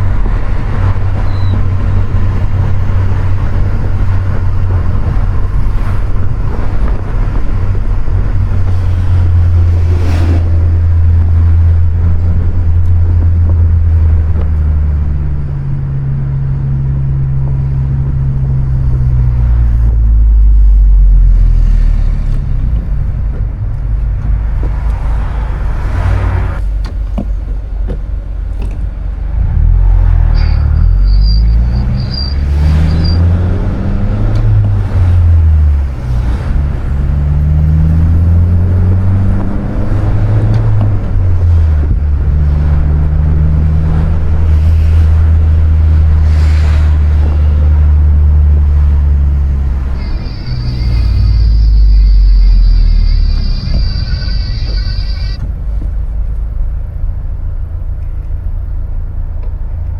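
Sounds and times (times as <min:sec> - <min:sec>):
car engine drone shifting gears: 0:00.0 - 0:59.9
road noise: 0:00.0 - 0:59.9.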